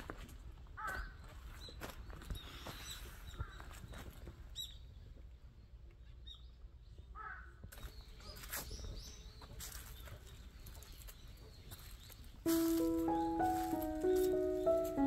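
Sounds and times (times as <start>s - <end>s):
faint outdoor ambience: 0.0s - 15.0s
birds chirping: 0.8s - 15.0s.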